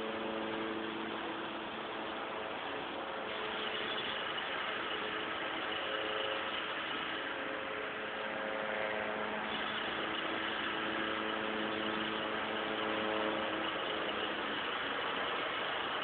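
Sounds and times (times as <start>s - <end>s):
engine and hydraulics running: 0.0s - 16.0s
hum of steady tones: 0.0s - 16.0s.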